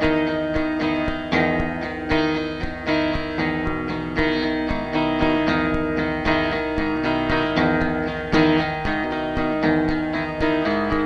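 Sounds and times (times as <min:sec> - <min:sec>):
plucked notes: 0:00.0 - 0:11.0
sustained chords: 0:00.0 - 0:11.0.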